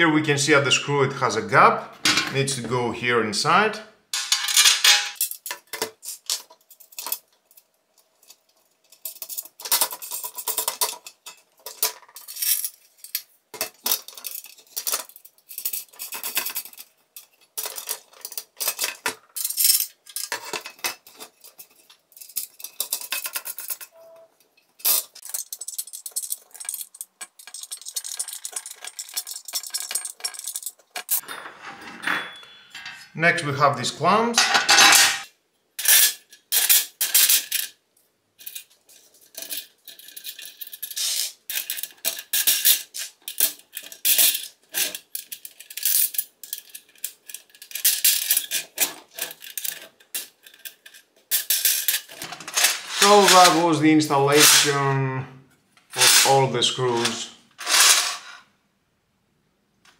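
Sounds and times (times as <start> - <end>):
metal screws clinking on metal plate: 4.2 - 33.5, 34.4 - 37.8, 38.4 - 54.9, 55.9 - 58.4.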